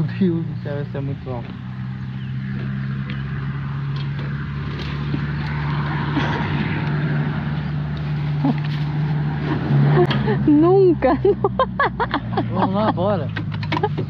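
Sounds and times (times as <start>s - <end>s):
motorcycle engine humming: 0.0s - 14.0s
road and wind noise: 0.0s - 14.0s.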